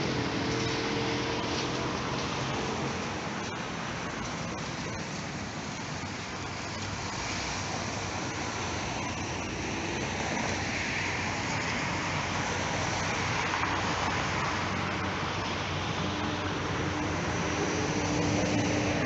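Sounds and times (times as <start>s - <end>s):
car traffic: 0.0s - 19.0s
tram wheels rolling on track: 0.0s - 19.0s.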